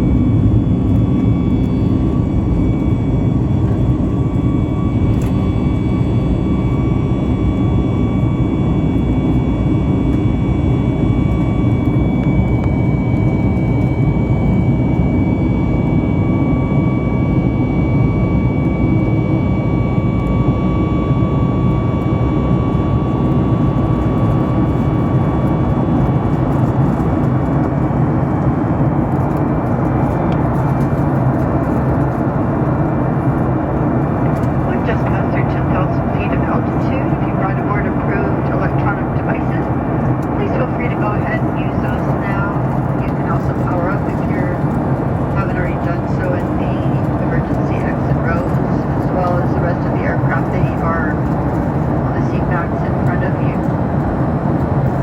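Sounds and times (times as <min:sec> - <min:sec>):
jet engines rushing and whining: 0:00.0 - 0:55.0.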